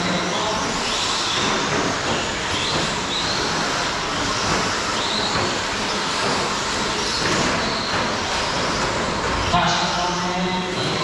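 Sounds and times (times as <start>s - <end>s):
rc trucks whirring: 0.0s - 9.5s.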